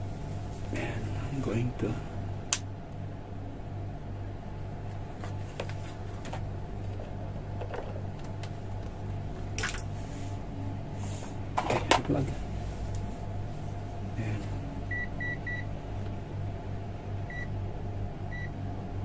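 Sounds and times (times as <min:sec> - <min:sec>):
exhaust fan motor hum: 0:00.0 - 0:19.0.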